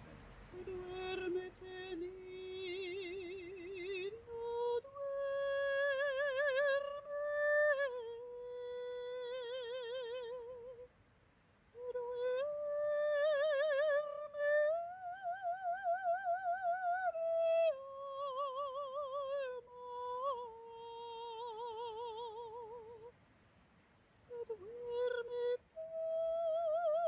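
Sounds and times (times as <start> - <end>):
woman singing without words: 0.0 - 11.0, 11.7 - 23.2, 24.2 - 27.0.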